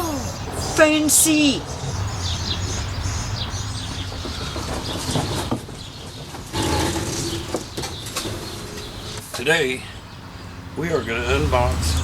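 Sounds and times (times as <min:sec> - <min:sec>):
birds chirping faintly: 0:00.0 - 0:12.0.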